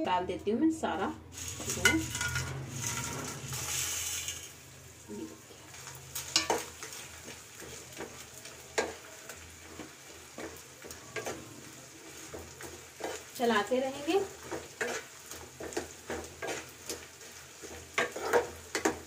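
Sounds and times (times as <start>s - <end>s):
food sizzling in hot fat: 1.3s - 19.0s
spatula scraping a pan: 1.4s - 4.5s, 5.7s - 13.4s, 14.2s - 19.0s.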